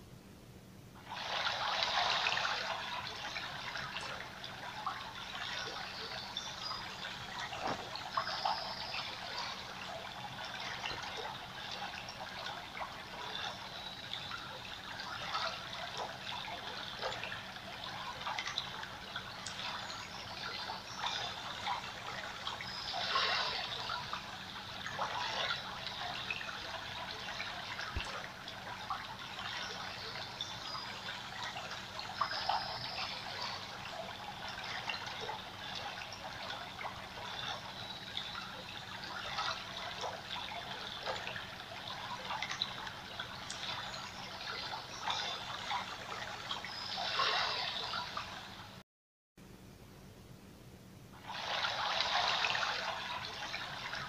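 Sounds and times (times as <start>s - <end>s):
water drips and splashes: 1.0s - 48.8s, 51.2s - 54.0s
water trickling: 1.0s - 48.8s, 51.2s - 54.0s.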